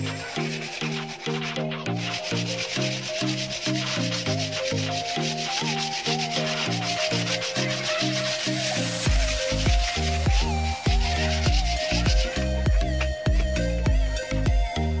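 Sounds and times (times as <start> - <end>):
sandpaper rubbing on wood: 0.0 - 14.3
background music with even beat: 0.0 - 15.0.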